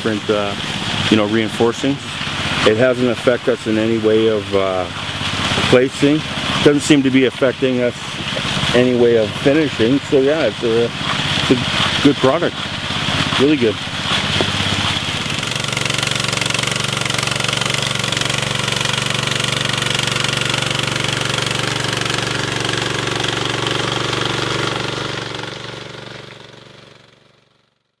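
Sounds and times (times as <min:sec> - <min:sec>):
power trowel engine running: 0:00.0 - 0:27.8.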